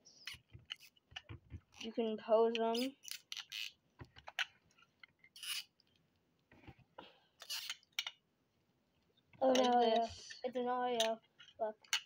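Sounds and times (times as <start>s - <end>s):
plastic figure clicks and rustles: 0.2s - 6.8s, 7.4s - 8.2s, 9.3s - 12.0s.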